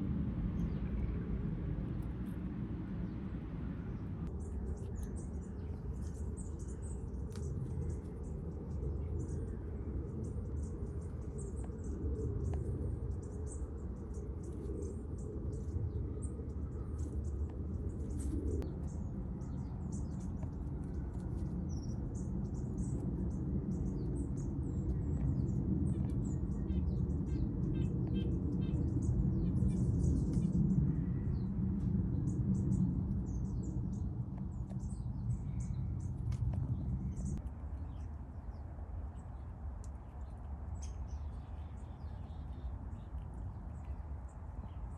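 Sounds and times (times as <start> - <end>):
steady low rumble: 0.0 - 44.9
small birds chirping: 3.0 - 44.9.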